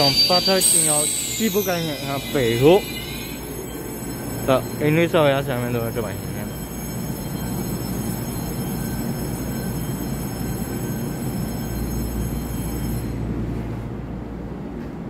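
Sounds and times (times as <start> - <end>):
high whine: 0.0 - 13.9.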